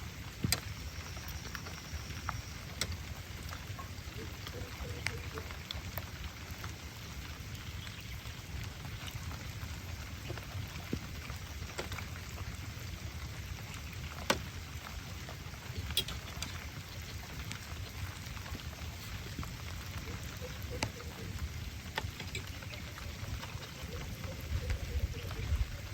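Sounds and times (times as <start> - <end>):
raindrops ticking close by: 0.0 - 25.9
steady rain: 0.0 - 25.9.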